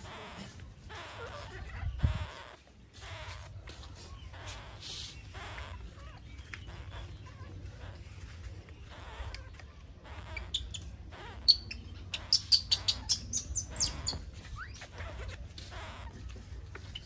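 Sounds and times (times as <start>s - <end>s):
high-pitched animal calls: 0.0s - 17.0s.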